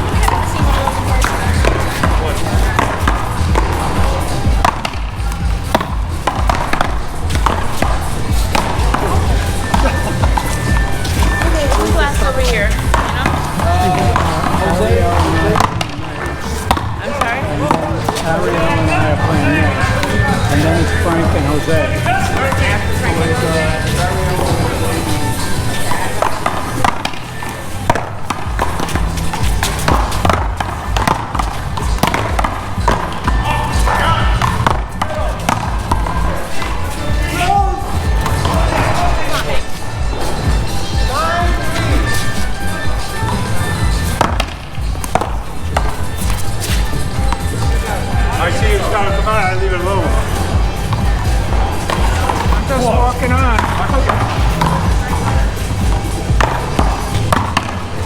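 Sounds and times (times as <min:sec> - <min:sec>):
music with heavy bass beat: 0:00.0 - 0:24.4, 0:28.2 - 0:58.0
paddles hitting ball: 0:00.0 - 0:58.0.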